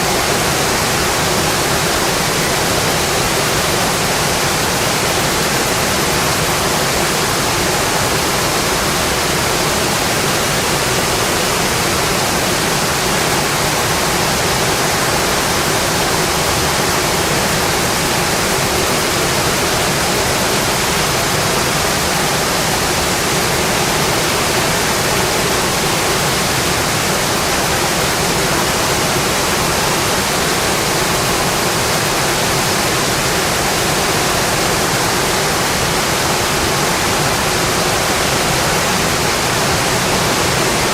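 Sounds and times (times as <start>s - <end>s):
steady dense rain: 0.0s - 40.9s.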